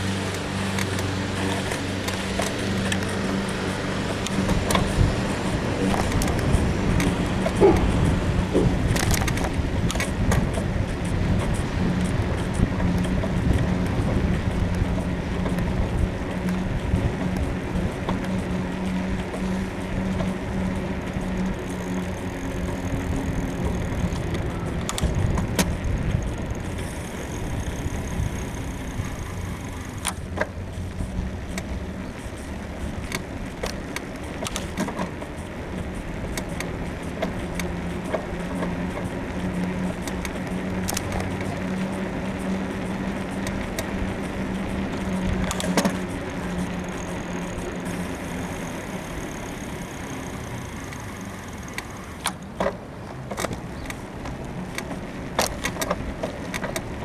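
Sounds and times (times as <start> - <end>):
bicycle rolling and wind noise: 0.0 - 57.0
bicycle suspension creaks and clicks: 0.0 - 57.0.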